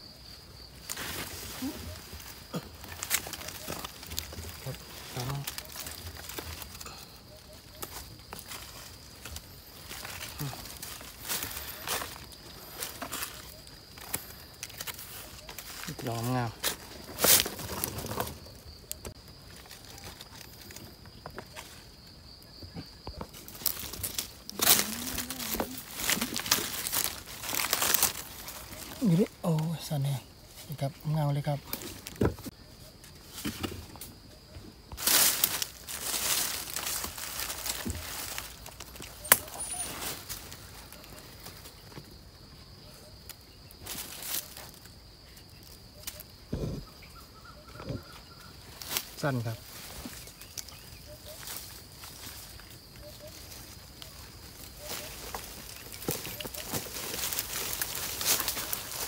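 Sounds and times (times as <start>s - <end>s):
high-pitched insect tone: 0.0s - 59.0s
rustling through dry leaf litter: 0.6s - 22.0s, 23.2s - 31.3s, 34.9s - 42.0s, 43.6s - 46.3s, 48.5s - 59.0s.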